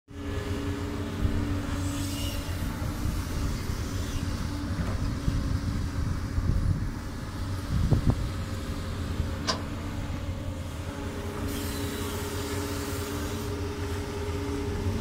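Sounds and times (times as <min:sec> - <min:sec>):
excavator diesel engine droning: 0:00.1 - 0:15.0.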